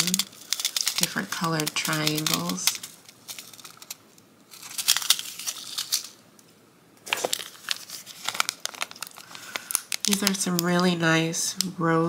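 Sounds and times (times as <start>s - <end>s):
plastic packets crinkling: 0.0s - 6.2s, 7.0s - 11.7s.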